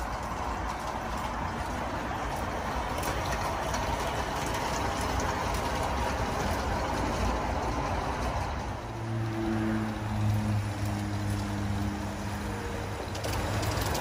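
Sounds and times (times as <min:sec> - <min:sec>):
model train wheels on rails: 0:00.0 - 0:14.0.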